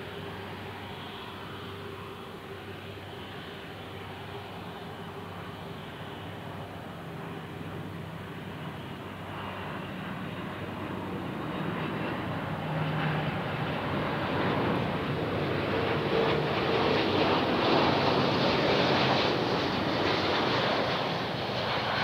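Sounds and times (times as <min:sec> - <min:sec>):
airliner jet engines: 0:00.0 - 0:22.0.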